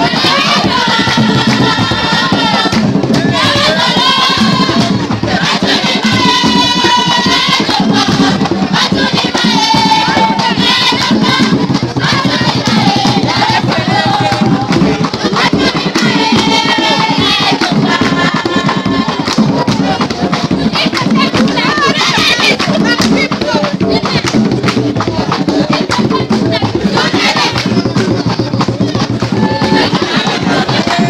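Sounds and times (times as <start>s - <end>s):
continuous drumming: 0.0s - 31.0s
group singing: 0.0s - 31.0s.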